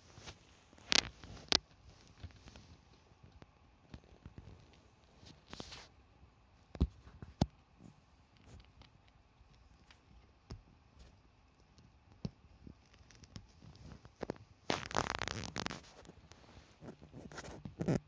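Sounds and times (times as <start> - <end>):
crinkling rustle: 0.0 - 6.0, 6.6 - 18.0.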